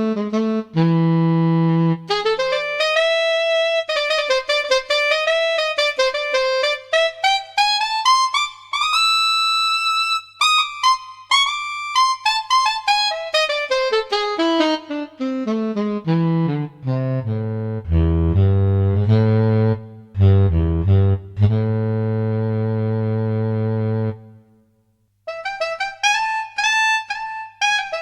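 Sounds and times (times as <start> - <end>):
solo saxophone: 0.0 - 24.6, 25.3 - 28.0.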